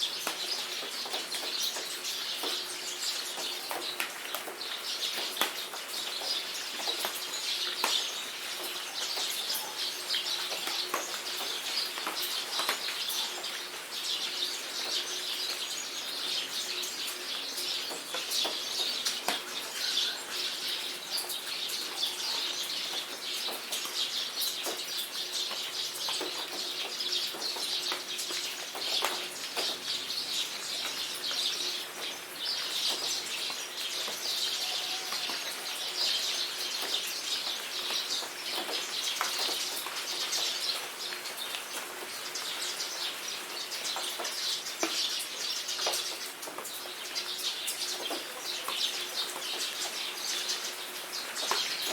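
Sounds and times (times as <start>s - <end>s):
birds chirping and calling: 0.0s - 51.9s
rain falling: 0.0s - 51.9s.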